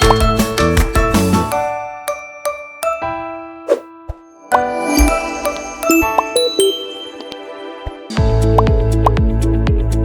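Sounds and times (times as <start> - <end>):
upbeat children's music: 0.0 - 3.4, 4.5 - 10.0.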